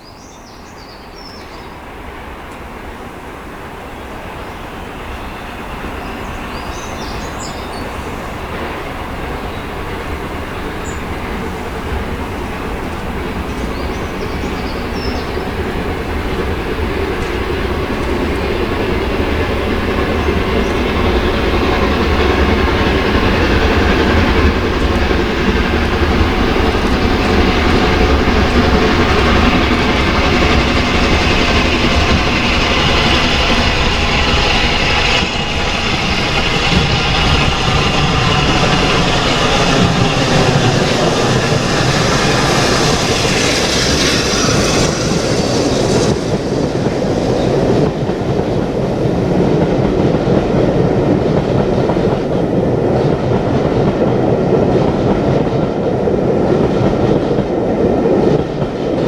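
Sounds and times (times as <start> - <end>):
steam train running past: 0.0 - 59.0.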